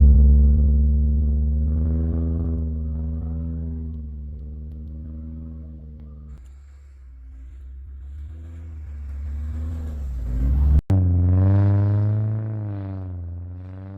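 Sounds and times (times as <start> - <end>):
car engine droning: 0.0 - 13.9.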